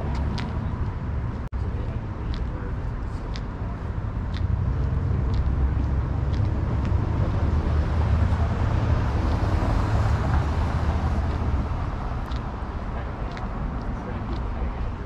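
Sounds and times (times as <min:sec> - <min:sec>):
traffic engine rumble: 0:00.0 - 0:15.0
vehicle passing: 0:02.5 - 0:15.0.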